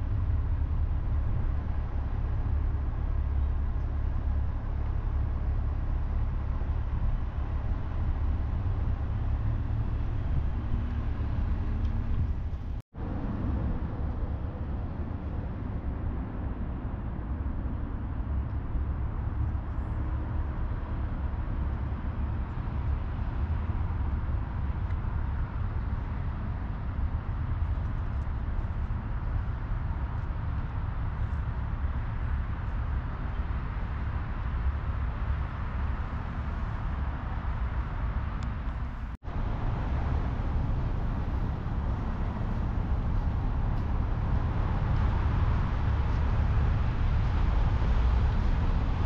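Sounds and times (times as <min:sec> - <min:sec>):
low rumble: 0:00.0 - 0:49.0.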